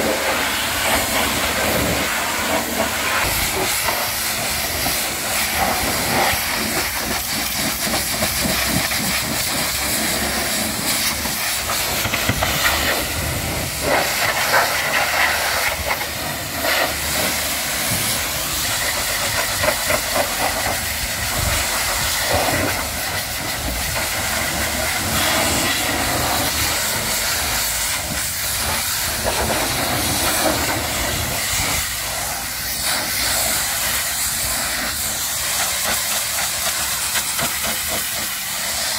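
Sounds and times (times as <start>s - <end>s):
pressure washer jet spraying: 0.0s - 38.9s.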